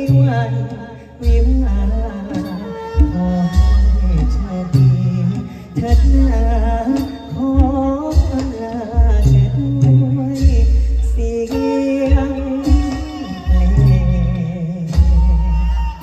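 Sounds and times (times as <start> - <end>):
band accompaniment: 0.0 - 16.0
heavy bass notes: 0.0 - 16.0
person singing with vibrato: 0.0 - 16.0.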